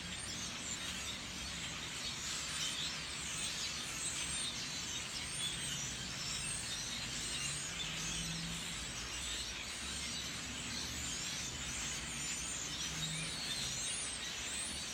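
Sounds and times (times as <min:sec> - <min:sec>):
flock of birds chirping: 0:00.0 - 0:14.9.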